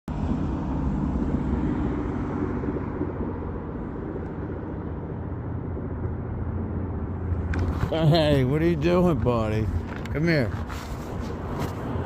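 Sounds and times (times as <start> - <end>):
vehicle passing: 0.1 - 12.0.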